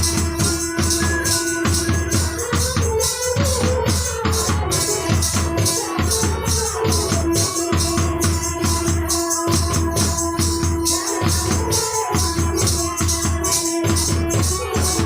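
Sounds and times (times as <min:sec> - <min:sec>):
song with fast beat: 0:00.0 - 0:15.0.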